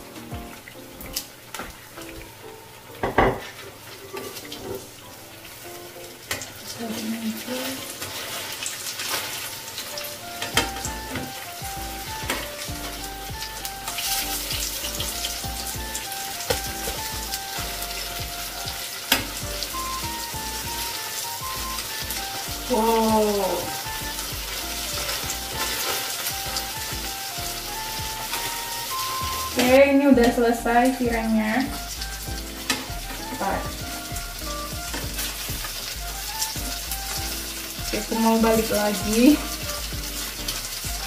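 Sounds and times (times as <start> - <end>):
fritters sizzling in hot oil: 0.0 - 41.0.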